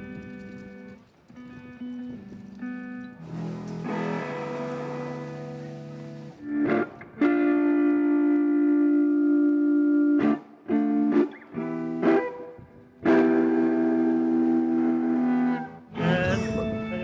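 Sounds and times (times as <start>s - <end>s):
instrument playing held notes: 1.8s - 17.0s.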